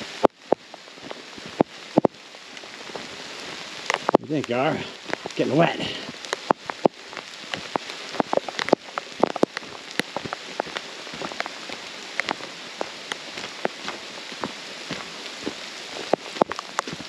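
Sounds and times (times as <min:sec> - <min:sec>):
rain falling on a forest: 0:00.0 - 0:17.0
raindrop taps: 0:00.0 - 0:17.0.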